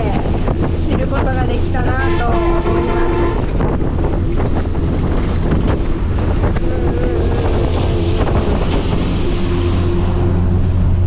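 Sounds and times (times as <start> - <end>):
bus engine humming: 0.0 - 11.0
wind and road noise: 0.0 - 11.0.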